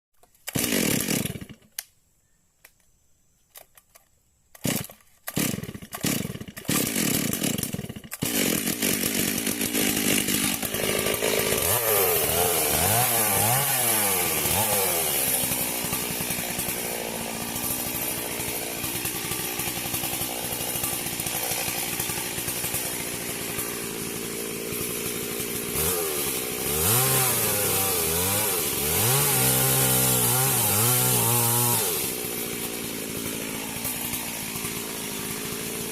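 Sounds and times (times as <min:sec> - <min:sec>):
chainsaw revving: 0:00.5 - 0:01.7, 0:04.6 - 0:35.9.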